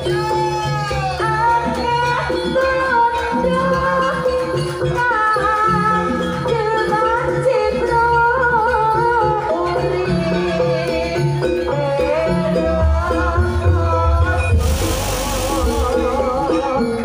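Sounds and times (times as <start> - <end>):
drums and gongs ensemble: 0.0 - 17.0.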